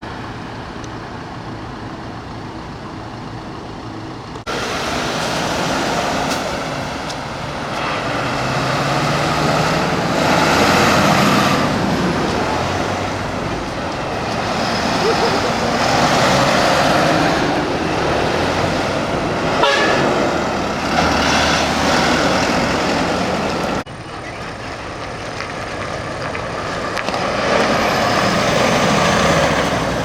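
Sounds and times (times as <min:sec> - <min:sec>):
heavy truck engines passing: 0:00.0 - 0:30.0.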